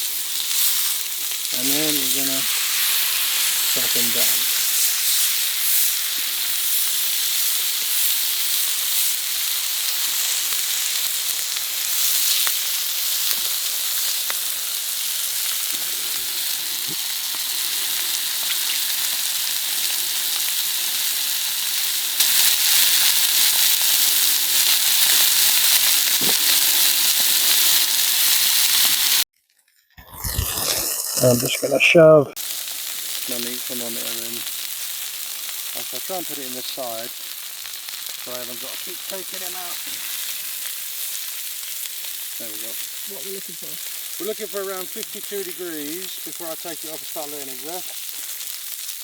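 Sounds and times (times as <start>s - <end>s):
meat sizzling on a griddle: 0.0s - 29.3s, 32.4s - 49.0s
faint crackles: 0.0s - 49.0s.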